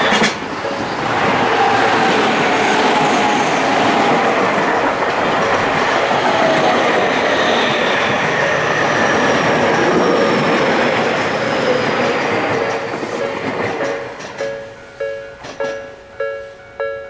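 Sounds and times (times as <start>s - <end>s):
crossing warning bell: 0.0s - 12.1s, 12.9s - 17.0s
train wheels rumbling over rails: 0.0s - 16.0s.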